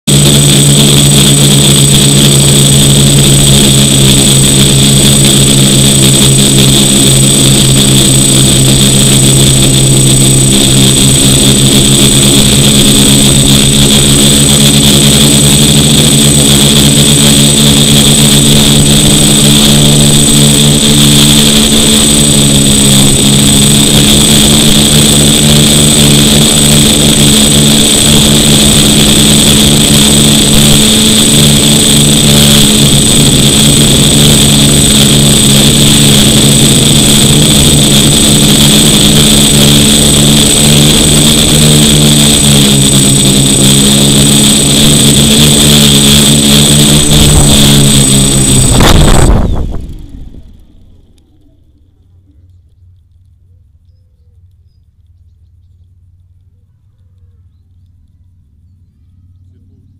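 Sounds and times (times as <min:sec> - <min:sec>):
quadcopter motors buzzing: 0:00.0 - 0:53.0.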